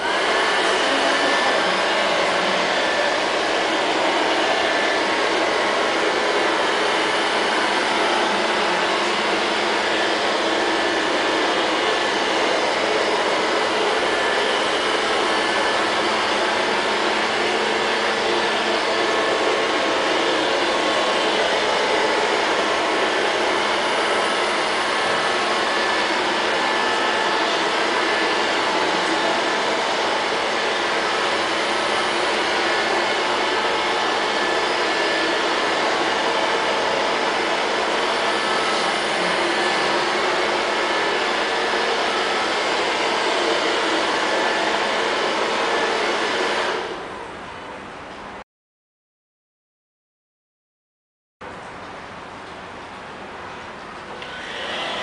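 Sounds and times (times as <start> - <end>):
robot vacuum cleaner running: 0.0 - 47.7, 54.1 - 55.0.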